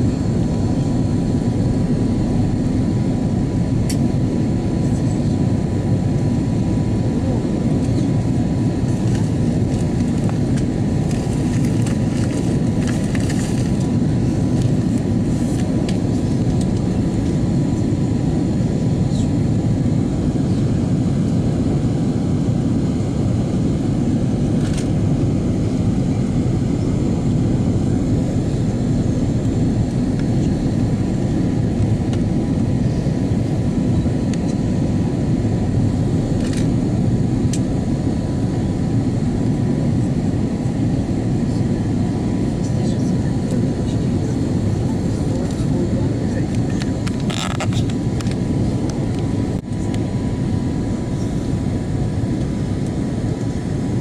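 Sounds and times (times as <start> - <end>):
airplane cabin airflow and engine drone: 0.0 - 54.0.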